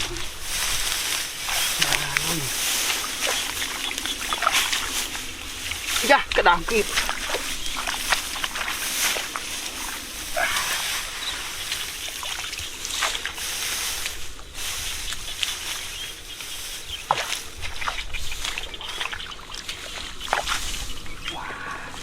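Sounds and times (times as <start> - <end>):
sharp water splashes: 0.0 - 14.3, 17.1 - 21.5
shallow water sloshing: 0.0 - 22.0.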